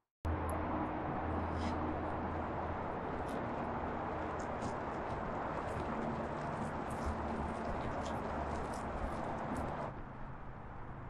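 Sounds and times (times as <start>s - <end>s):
tyre and road noise: 0.3s - 11.0s.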